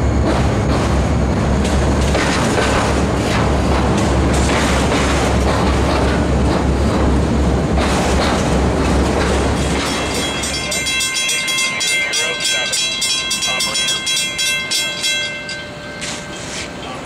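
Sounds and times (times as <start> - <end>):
train wheels rumbling on rail: 0.0 - 17.0
clickety-clack over rail joints: 0.2 - 15.3.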